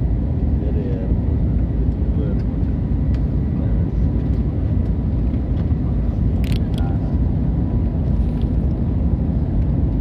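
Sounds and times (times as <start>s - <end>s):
jet engine rumble: 0.0s - 10.0s.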